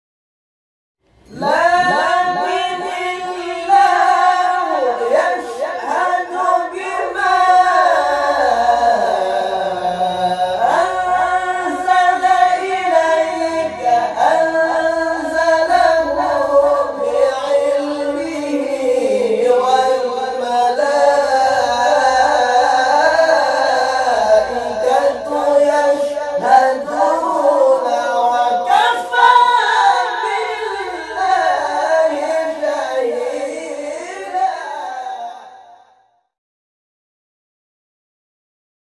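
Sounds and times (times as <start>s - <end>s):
men reciting in melismatic style: 1.2s - 35.8s.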